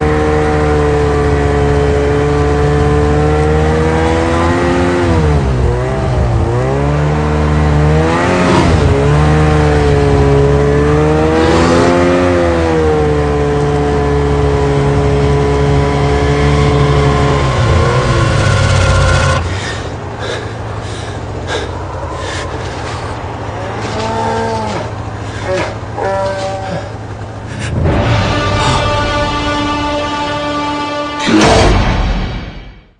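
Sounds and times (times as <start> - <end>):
loud engine-like drone: 0.0 - 32.8.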